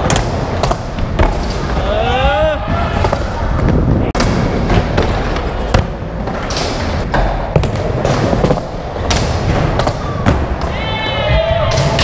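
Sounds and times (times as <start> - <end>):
skateboard wheels rolling: 0.0 - 12.0.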